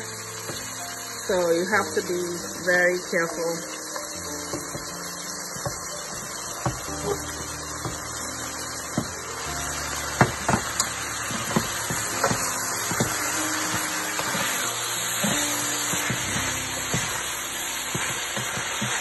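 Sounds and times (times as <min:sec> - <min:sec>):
food sizzling in frying pan: 0:00.0 - 0:19.0.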